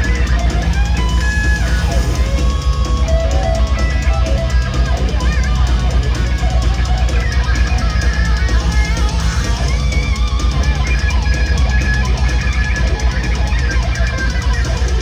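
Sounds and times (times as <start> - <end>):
electric lead guitar bending notes: 0.0 - 15.0
heavy metal band playing: 0.0 - 15.0.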